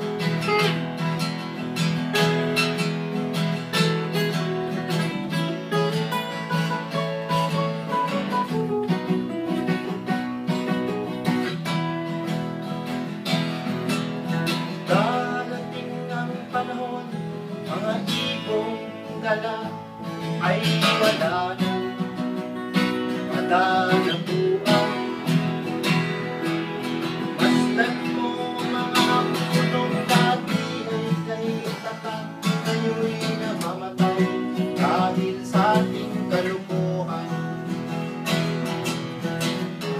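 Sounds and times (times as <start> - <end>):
acoustic guitar strumming folk song: 0.0 - 39.9.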